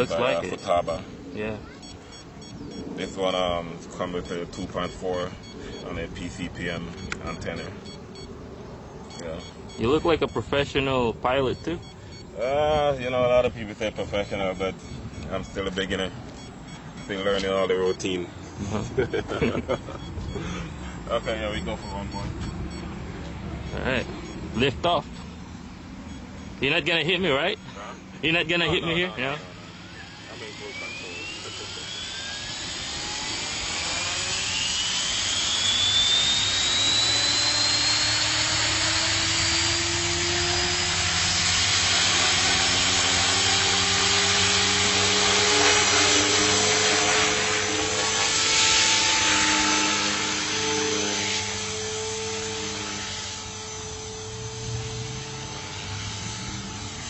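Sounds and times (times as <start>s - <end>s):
rc helicopter motor whine: 0.0s - 57.0s.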